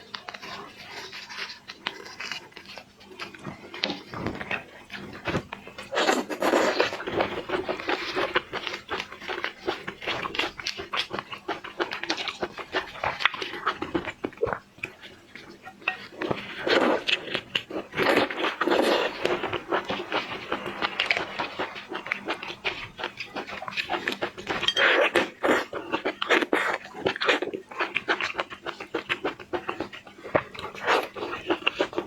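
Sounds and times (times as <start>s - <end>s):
sucking and slurping: 0.0s - 32.0s
wet chewing: 0.0s - 32.0s.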